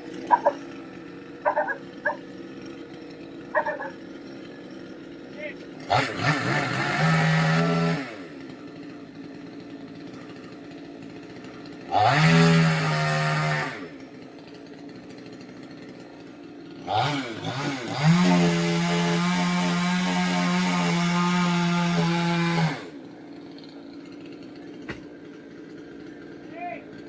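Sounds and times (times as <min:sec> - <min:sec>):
chainsaw engine revving: 0:00.0 - 0:27.0.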